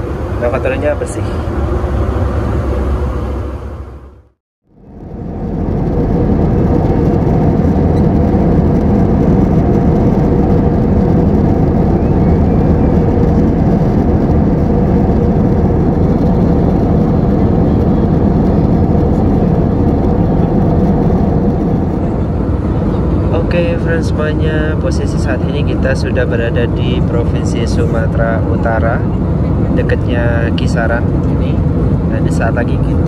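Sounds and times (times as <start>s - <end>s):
jet airliner cabin rumble: 0.0s - 33.0s.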